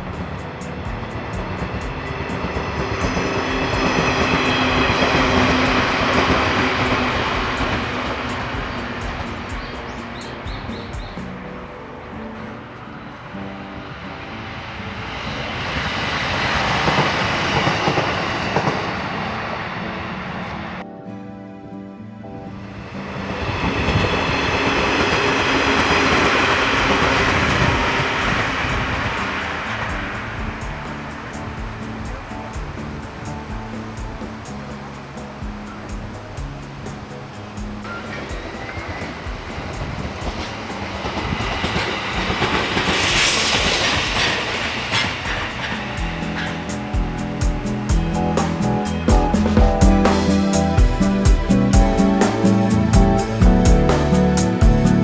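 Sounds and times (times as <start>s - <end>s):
electric train passing: 0.0s - 20.8s, 22.6s - 55.0s.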